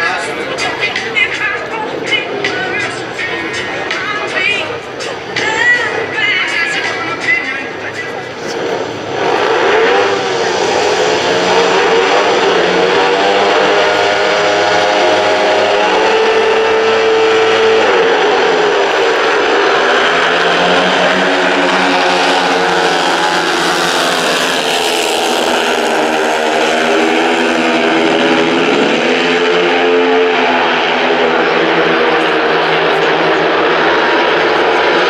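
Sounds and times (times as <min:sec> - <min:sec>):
motorcycles racing: 0:00.0 - 0:35.0.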